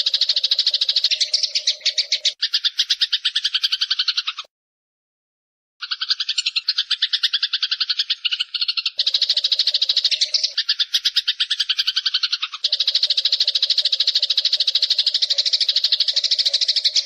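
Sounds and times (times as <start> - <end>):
sparrows chattering chirps: 0.0 - 4.5, 5.8 - 17.0.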